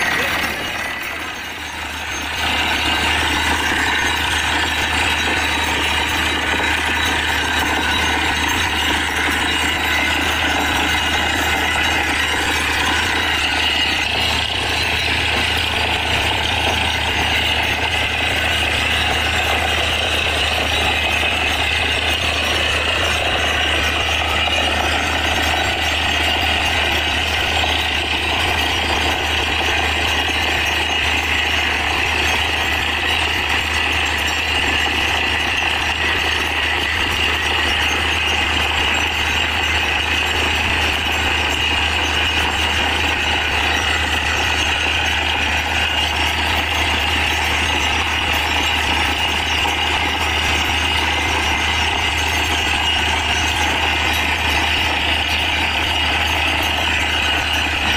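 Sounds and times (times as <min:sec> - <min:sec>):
air hammer pounding: 0:00.0 - 0:57.9
drilling rig running: 0:00.0 - 0:57.9.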